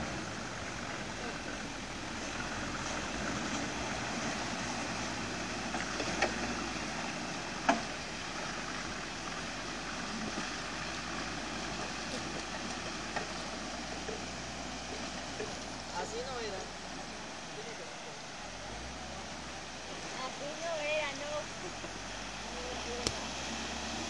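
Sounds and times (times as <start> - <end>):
diesel truck engine running: 0.0 - 24.0
water churning and splashing: 0.0 - 24.0.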